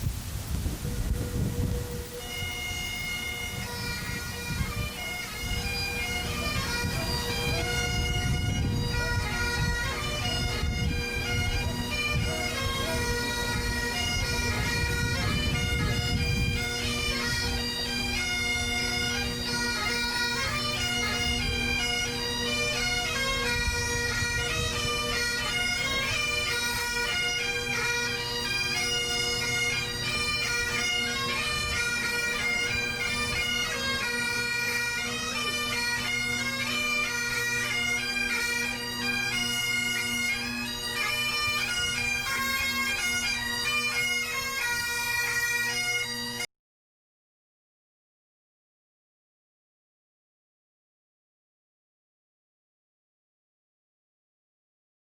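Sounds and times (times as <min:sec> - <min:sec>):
bagpipe melody: 0:00.0 - 0:46.5
bagpipe drones: 0:00.4 - 0:46.5.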